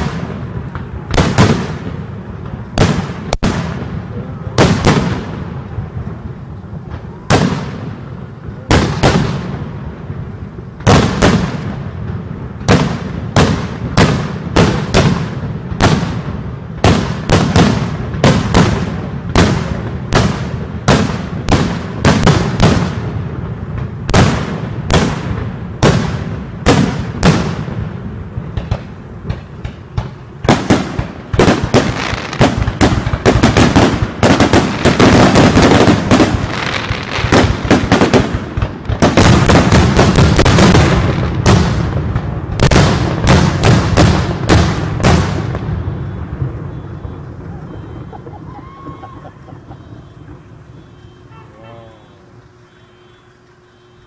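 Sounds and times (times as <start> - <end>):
fireworks bangs and crackle: 0.0 - 51.3.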